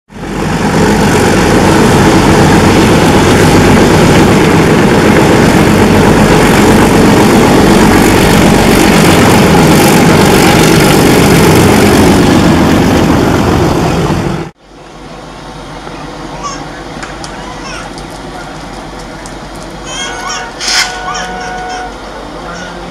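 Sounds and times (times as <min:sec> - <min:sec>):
diesel locomotive engine running: 0:00.1 - 0:22.9.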